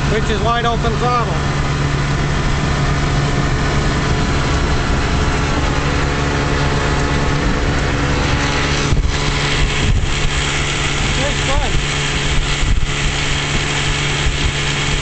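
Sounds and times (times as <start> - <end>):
outboard motor at full throttle: 0.0 - 15.0.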